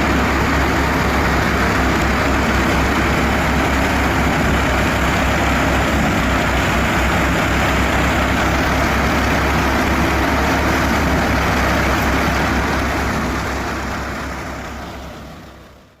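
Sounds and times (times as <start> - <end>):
tractor engine rumble: 0.0 - 16.0.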